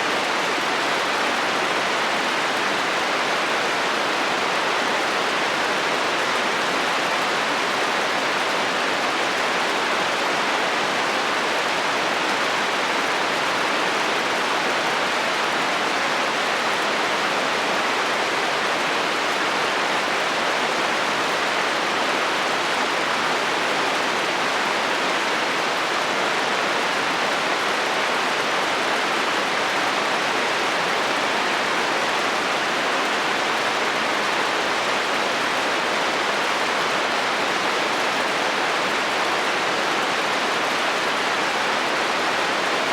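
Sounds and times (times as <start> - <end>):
heavy rain on a metal roof: 0.0 - 42.9.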